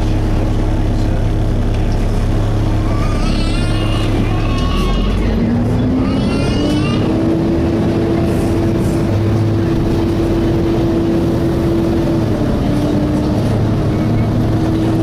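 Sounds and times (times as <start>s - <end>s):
bus engine and road rumble: 0.0s - 15.0s
cooling fan wailing drone: 0.0s - 15.0s.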